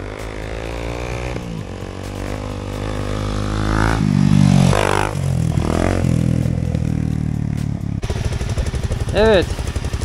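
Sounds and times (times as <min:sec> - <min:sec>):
off-road motorcycle engine revving: 0:00.0 - 0:10.0.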